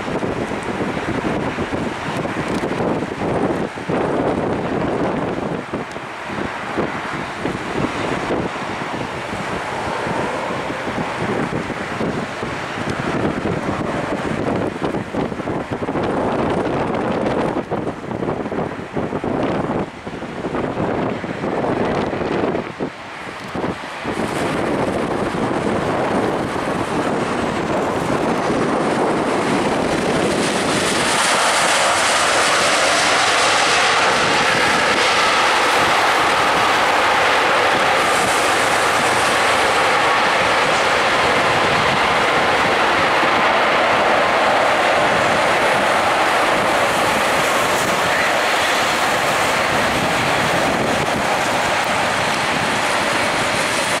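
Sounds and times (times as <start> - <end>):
jet engines rushing: 0.0 - 54.0.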